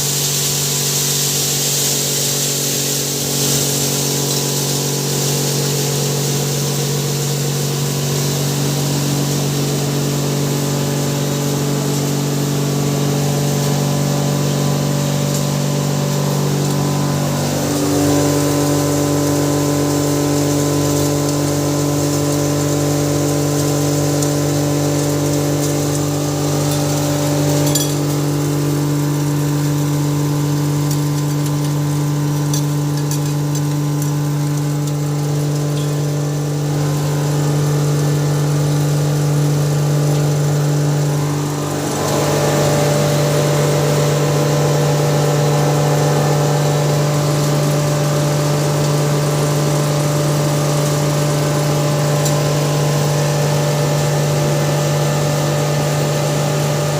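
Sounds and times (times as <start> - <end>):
grinder humming: 0.0 - 56.9.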